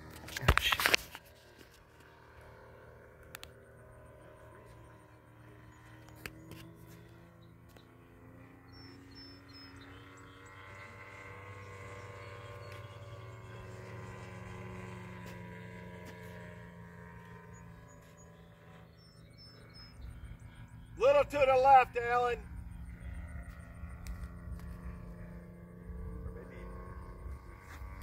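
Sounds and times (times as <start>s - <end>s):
model plane engine droning: 0.0s - 28.0s.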